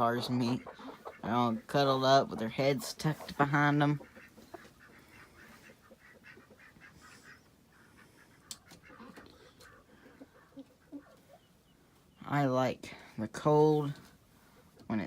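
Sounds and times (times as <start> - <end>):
hens calling softly: 0.0 - 12.2.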